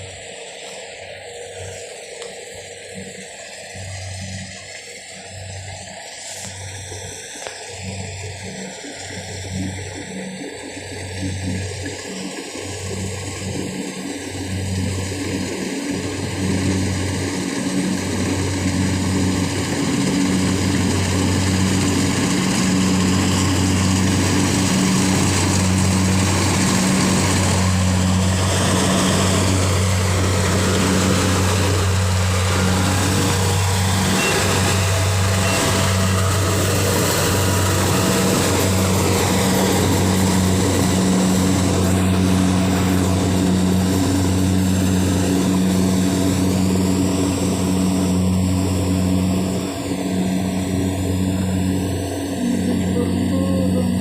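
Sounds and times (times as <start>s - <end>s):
thresher engine droning: 0.0s - 54.0s.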